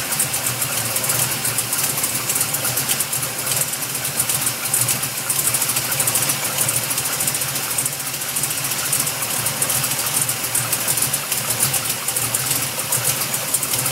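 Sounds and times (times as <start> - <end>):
engine idling: 0.0 - 13.9.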